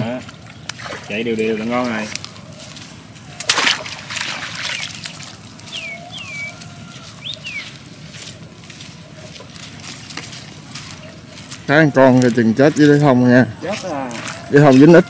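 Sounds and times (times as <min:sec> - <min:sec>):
person wading through water: 0:00.5 - 0:13.0, 0:13.8 - 0:15.0.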